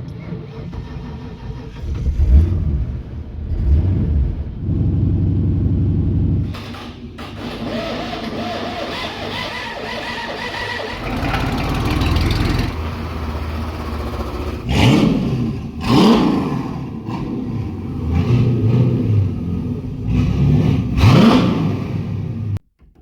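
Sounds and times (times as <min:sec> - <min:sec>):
engine revving: 0:00.0 - 0:22.6.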